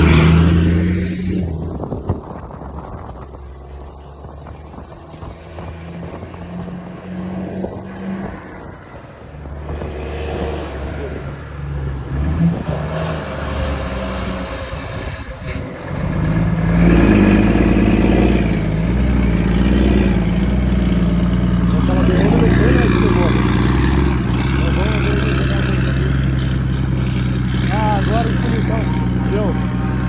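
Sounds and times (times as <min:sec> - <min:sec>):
diesel truck engine rumbling: 0:00.0 - 0:30.0.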